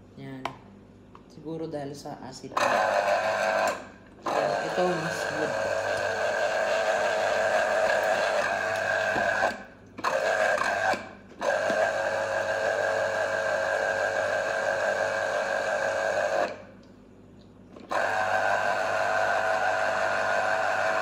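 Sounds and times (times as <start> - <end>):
citrus juicer motor whirring: 2.6 - 16.8, 17.7 - 21.0.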